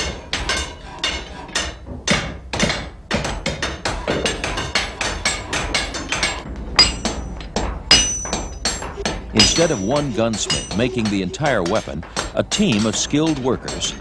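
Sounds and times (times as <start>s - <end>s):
hammers striking iron on anvil: 0.0s - 14.0s.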